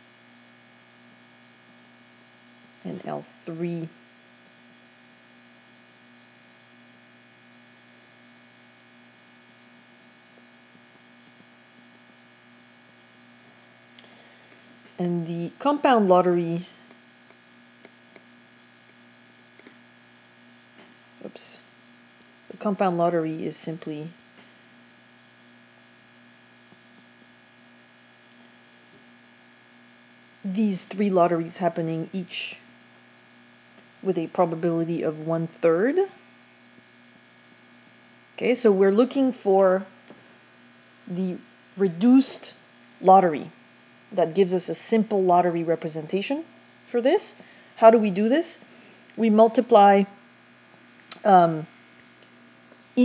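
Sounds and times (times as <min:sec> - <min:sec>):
faint electrical hum: 0:00.0 - 0:53.0.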